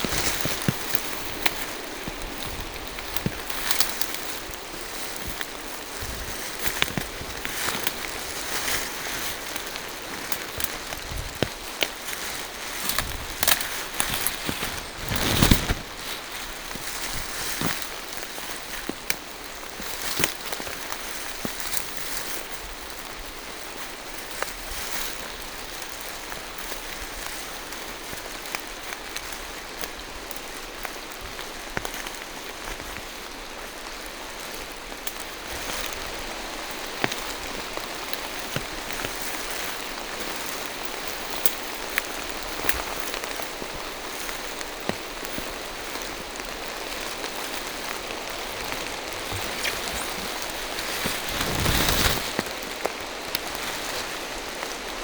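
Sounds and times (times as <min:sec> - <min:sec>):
rain falling through trees: 0:00.0 - 0:55.0.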